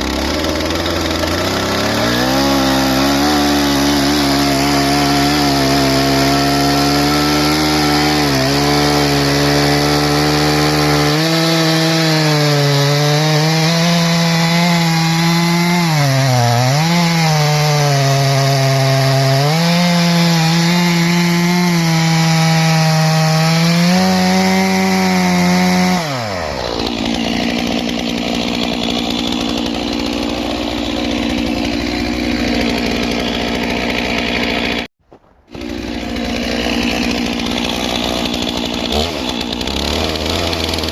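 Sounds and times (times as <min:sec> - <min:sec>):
chainsaw cutting through log: 0:00.0 - 0:40.9
chainsaw idling: 0:00.0 - 0:40.9.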